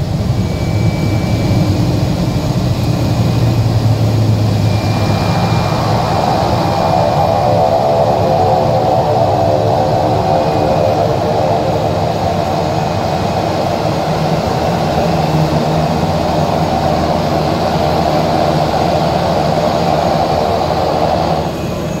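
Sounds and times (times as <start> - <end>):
propeller aircraft engine from cabin: 0.0 - 22.0.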